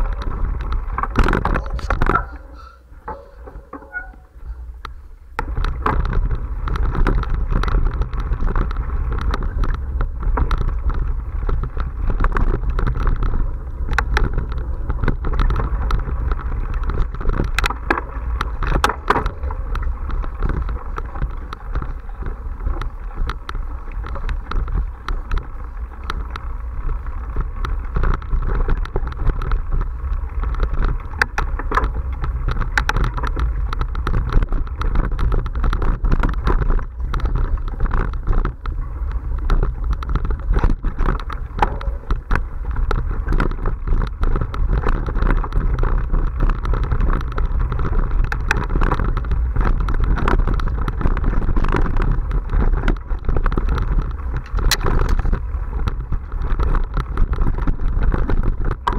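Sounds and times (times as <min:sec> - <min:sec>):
bike rattling and clicking: 0:00.0 - 0:58.9
tyres rolling on dirt: 0:00.0 - 0:58.9
wind buffeting microphone: 0:00.0 - 0:58.9.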